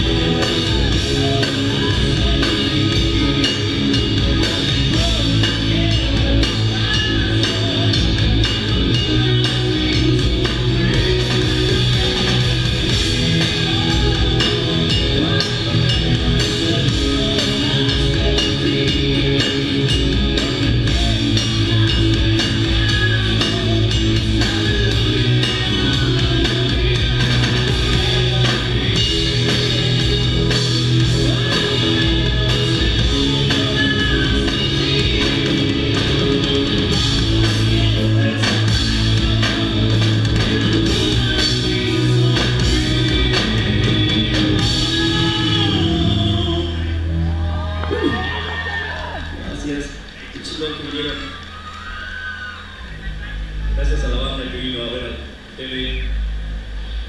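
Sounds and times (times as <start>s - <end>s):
drum kit: 0.0s - 50.5s
electric guitars: 0.0s - 54.4s.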